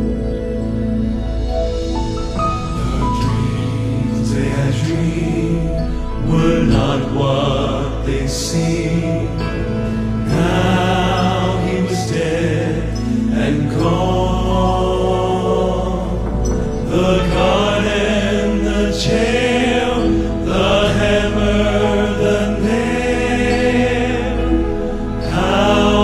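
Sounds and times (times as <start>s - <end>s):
piano accompaniment: 0.0s - 26.0s
male vocal quartet singing: 2.4s - 26.0s.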